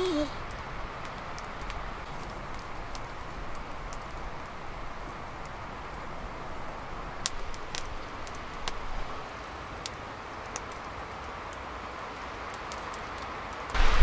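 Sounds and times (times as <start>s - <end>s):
campfire crackling: 0.0s - 14.0s
fire pops and snaps: 0.4s - 6.1s, 7.1s - 11.6s, 12.4s - 14.0s.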